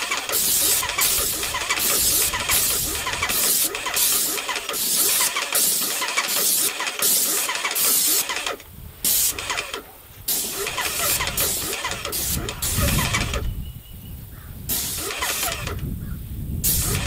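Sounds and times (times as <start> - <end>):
pump motor running: 0.0 - 13.4, 14.7 - 15.8, 16.7 - 17.0
spray gun hissing: 0.0 - 13.4, 14.7 - 15.8, 16.6 - 17.0.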